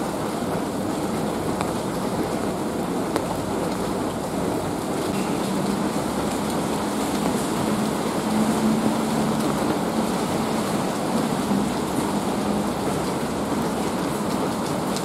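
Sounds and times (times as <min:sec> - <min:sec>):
rain on hard surfaces: 0:00.0 - 0:15.0.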